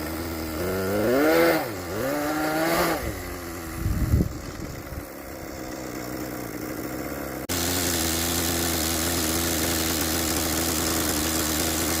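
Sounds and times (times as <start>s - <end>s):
small nitro engine idling: 0.0s - 12.0s.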